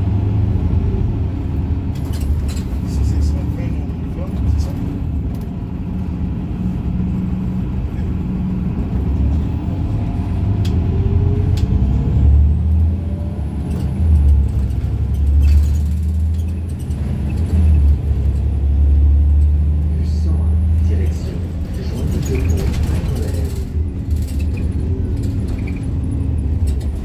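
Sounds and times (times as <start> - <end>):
bus drivetrain rumble: 0.0 - 27.0.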